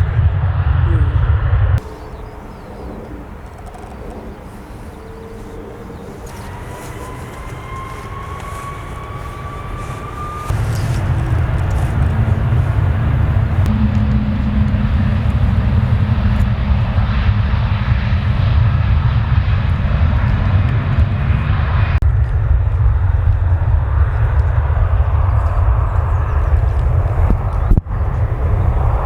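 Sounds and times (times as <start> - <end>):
jet engines rumbling: 0.3 - 22.0, 22.6 - 29.0.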